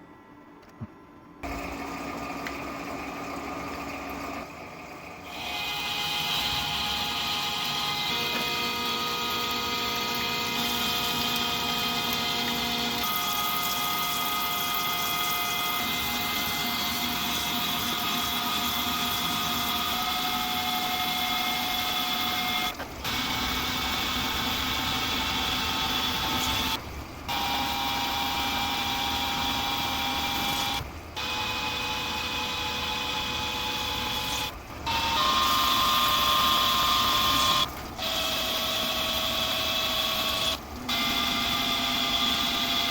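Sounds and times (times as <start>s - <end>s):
metal lathe whining: 5.2s - 42.9s.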